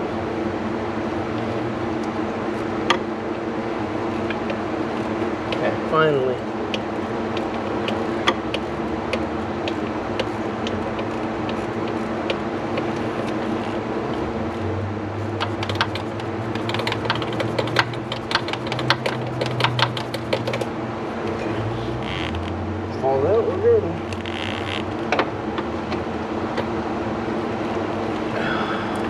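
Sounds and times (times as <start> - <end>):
steady shop hum: 0.0 - 29.0.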